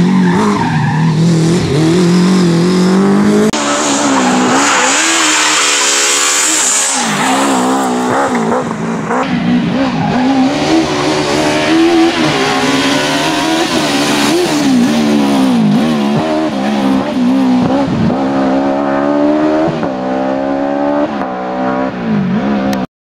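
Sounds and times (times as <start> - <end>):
car engine revving hard: 0.0 - 22.8.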